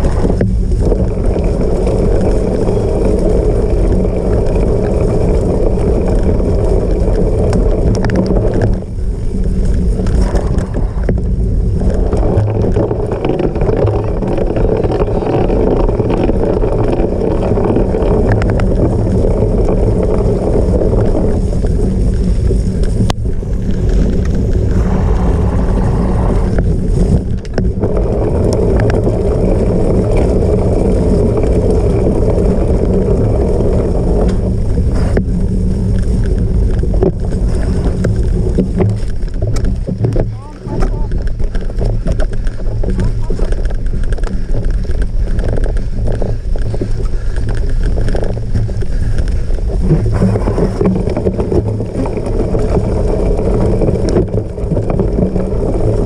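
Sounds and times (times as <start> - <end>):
bike rumbling over rough ground: 0.0 - 56.0
wind rushing on microphone: 0.0 - 56.0.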